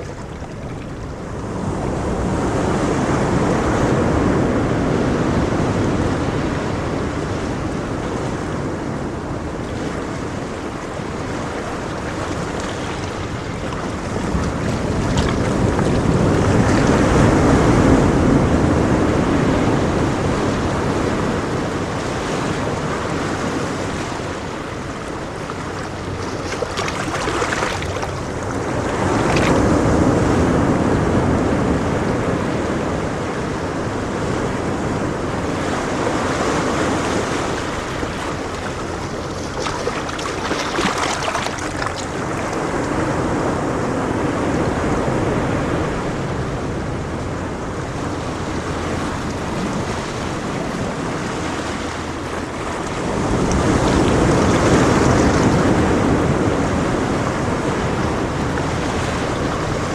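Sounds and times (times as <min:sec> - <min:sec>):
surf breaking on a beach: 0:00.0 - 0:59.9
wind on microphone: 0:00.0 - 0:59.9.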